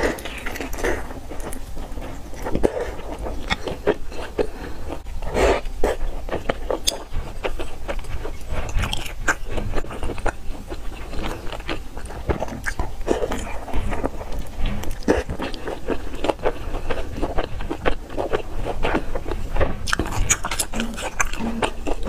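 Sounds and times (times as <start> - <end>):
biting and chewing soft food: 0.0 - 22.0.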